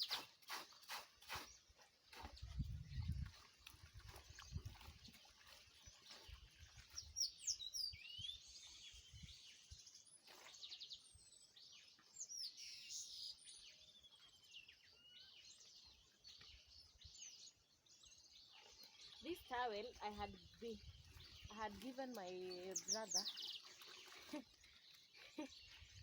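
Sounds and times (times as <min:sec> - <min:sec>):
wild birds chirping: 0:04.2 - 0:26.0.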